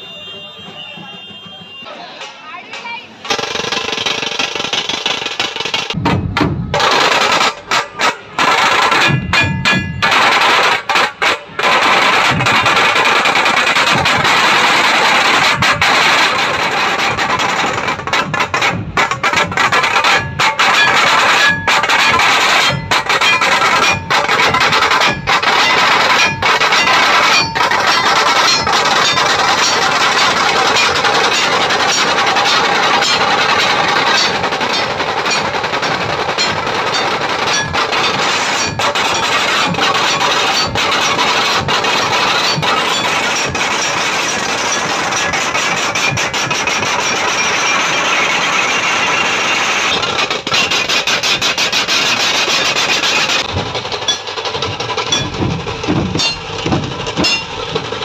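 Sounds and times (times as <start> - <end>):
heavy dhol drums: 0.0 - 58.0
tasha drums beaten fast: 2.6 - 58.0.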